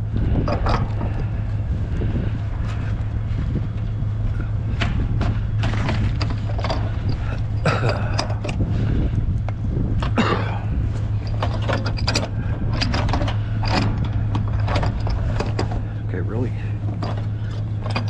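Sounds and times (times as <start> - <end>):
steady low hum: 0.0 - 18.0
scrap metal clanking and scraping: 0.1 - 18.0.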